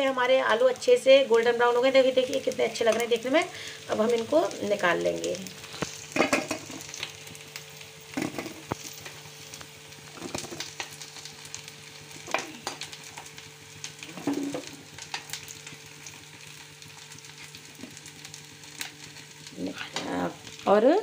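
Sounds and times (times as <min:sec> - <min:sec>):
potatoes sizzling in hot oil: 0:00.0 - 0:21.0.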